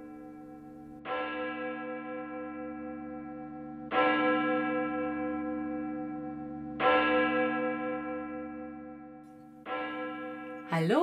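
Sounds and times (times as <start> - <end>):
church bell tolling: 0.0 - 11.0.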